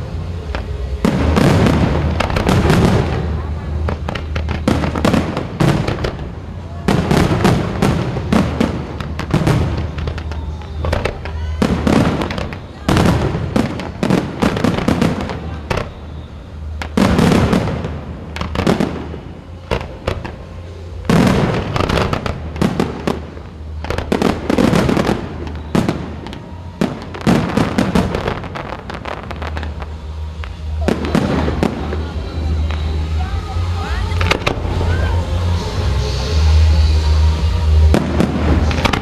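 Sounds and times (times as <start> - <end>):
fireworks bursting with bangs: 0.0 - 39.0
fireworks crackling: 0.0 - 39.0.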